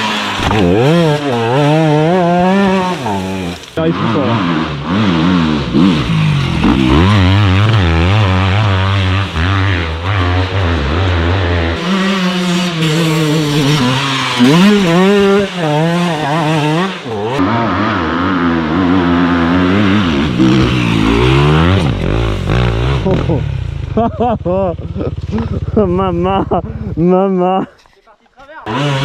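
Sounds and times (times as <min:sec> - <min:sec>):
motorcycle engine revving: 0:00.0 - 0:27.2, 0:28.7 - 0:29.0.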